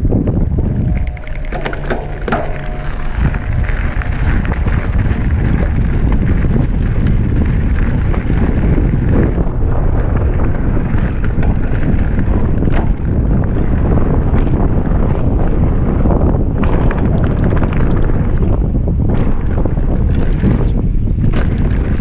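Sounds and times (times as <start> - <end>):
bike clicks and rattles: 0.0 - 22.0
wind buffeting microphone: 0.0 - 22.0
tyres rumbling on gravel: 0.4 - 22.0.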